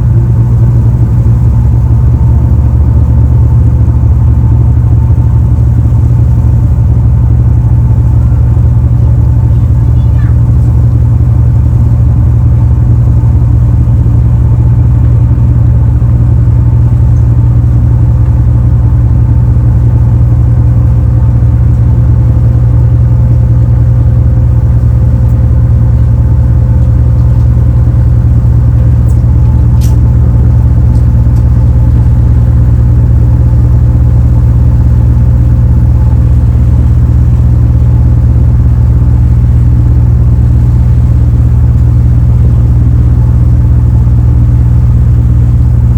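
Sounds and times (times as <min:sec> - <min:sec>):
ship diesel engines droning: 0:00.0 - 0:45.9.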